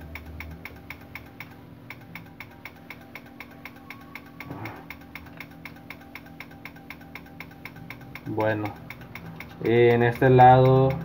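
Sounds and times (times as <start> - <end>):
relay clicking rapidly: 0.0 - 11.0
steady low hum: 0.0 - 11.0.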